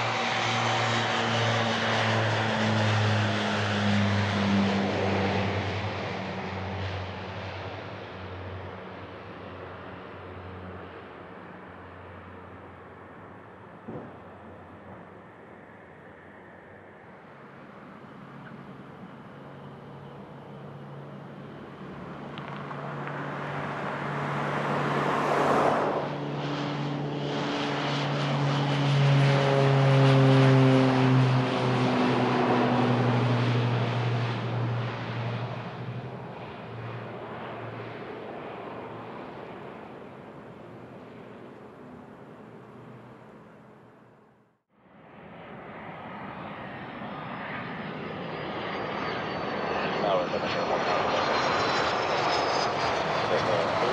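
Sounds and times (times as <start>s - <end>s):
airplane passing on runway: 0.0s - 53.9s.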